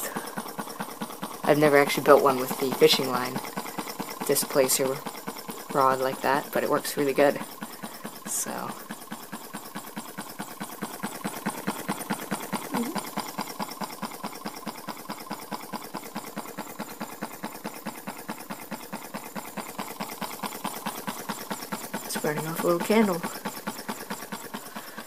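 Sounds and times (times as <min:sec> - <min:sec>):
small engine ticking rapidly: 0:00.0 - 0:25.0.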